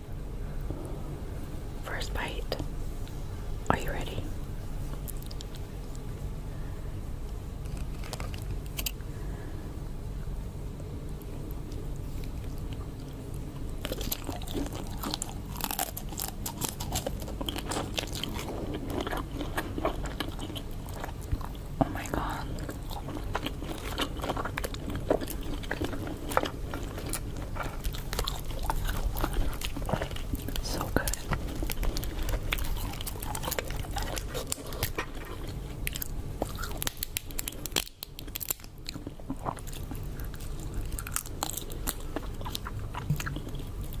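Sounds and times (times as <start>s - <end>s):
low steady hum: 0.0s - 44.0s
crunching bites and chewing: 5.0s - 6.1s, 7.6s - 9.0s, 11.2s - 44.0s.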